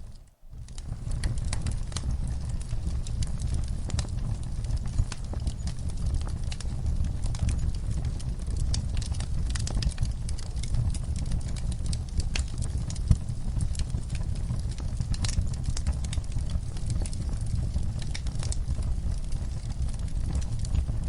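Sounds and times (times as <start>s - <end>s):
fire crackling in a fireplace: 0.0s - 21.0s.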